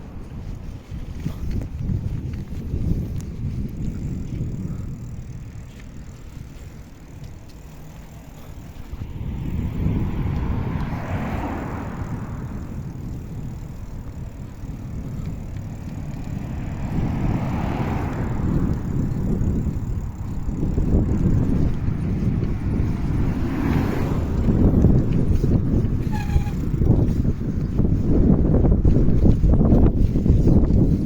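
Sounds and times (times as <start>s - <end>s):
road vehicles passing: 0.0s - 31.0s
wind buffeting microphone: 0.0s - 31.0s.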